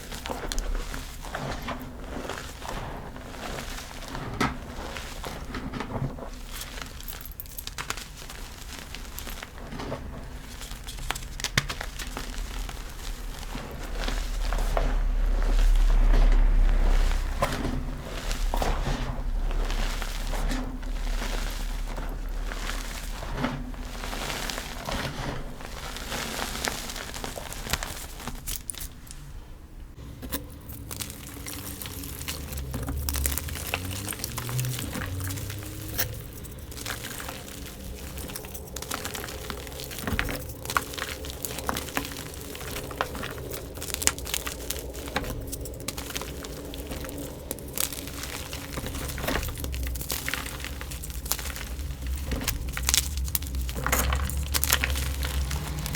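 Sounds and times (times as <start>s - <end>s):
chalk crushing and crackling: 0.0s - 55.9s.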